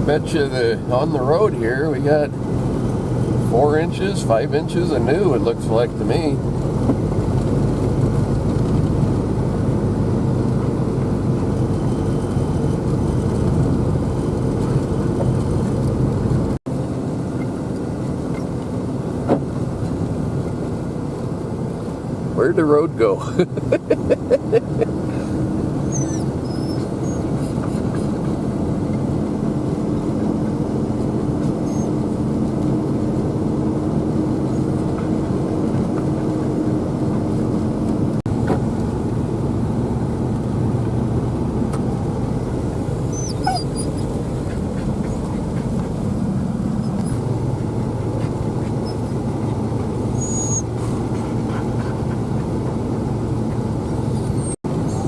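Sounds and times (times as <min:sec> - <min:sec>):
vehicle engine driving through snow: 0:00.0 - 0:55.0.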